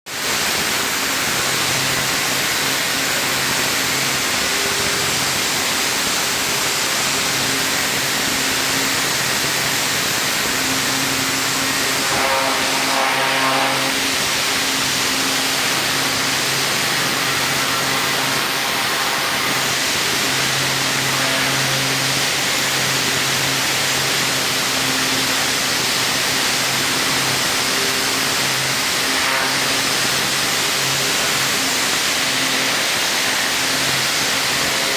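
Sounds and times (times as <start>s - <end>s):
pressure washer water hiss: 0.1s - 34.9s
pump motor hum: 0.1s - 34.9s.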